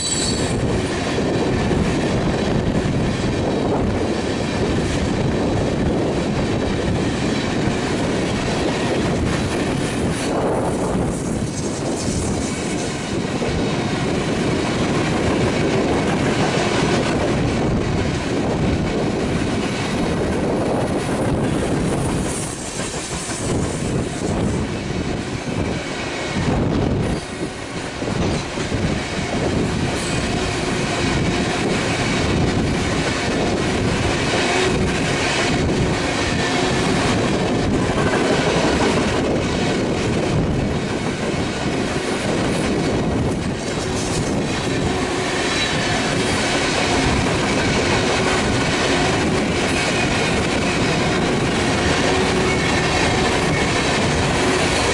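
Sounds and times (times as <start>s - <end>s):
train wheels clacking over rail joints: 5.8s - 24.6s, 25.2s - 54.9s.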